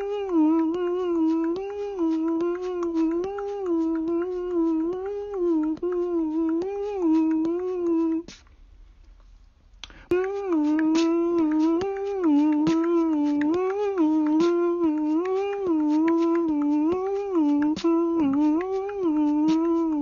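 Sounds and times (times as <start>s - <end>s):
humming voice-like melody: 0.0s - 8.4s, 9.8s - 20.0s.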